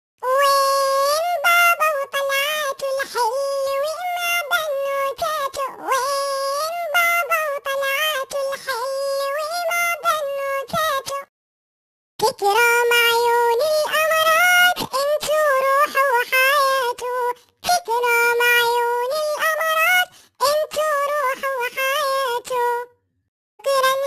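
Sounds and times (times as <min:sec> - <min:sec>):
high cartoon voice singing: 0:00.2 - 0:11.3, 0:12.2 - 0:22.9, 0:23.6 - 0:24.0.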